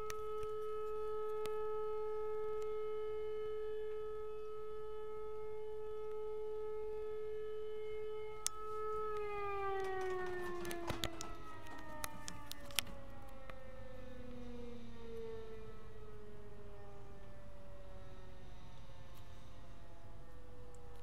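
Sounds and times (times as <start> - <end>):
siren-like drone: 0.0 - 21.0.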